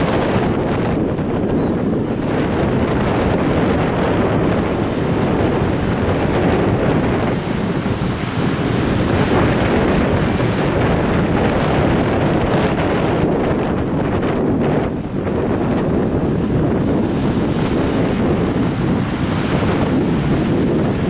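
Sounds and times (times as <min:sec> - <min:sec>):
ocean surf breaking on beach: 0:00.0 - 0:21.0
wind buffeting microphone: 0:00.0 - 0:21.0.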